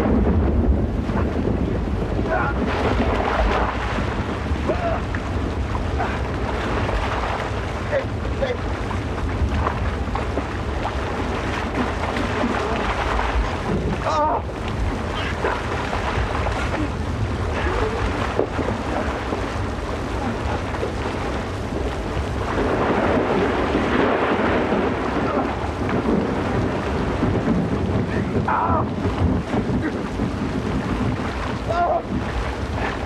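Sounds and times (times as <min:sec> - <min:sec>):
heavy rain downpour: 0:00.0 - 0:33.0
thunder rumbling: 0:00.0 - 0:33.0.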